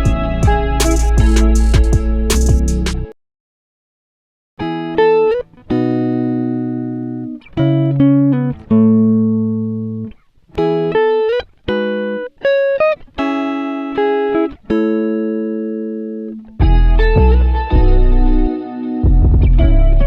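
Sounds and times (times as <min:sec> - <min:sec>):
plucked guitar chords: 0:00.0 - 0:03.2, 0:04.6 - 0:20.0.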